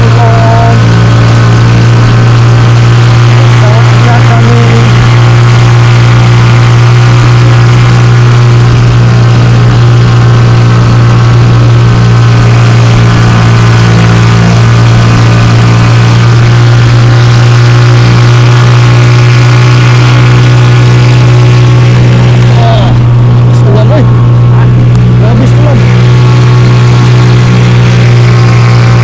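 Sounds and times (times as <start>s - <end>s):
outboard motor droning: 0.0s - 29.0s.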